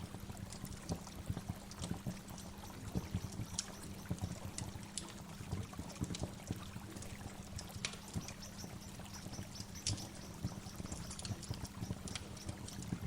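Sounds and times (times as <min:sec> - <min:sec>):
small splashes and drips: 0:00.0 - 0:13.0.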